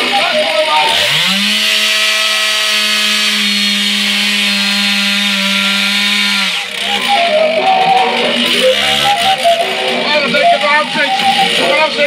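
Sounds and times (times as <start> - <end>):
chainsaw cutting log: 0.0 - 12.0.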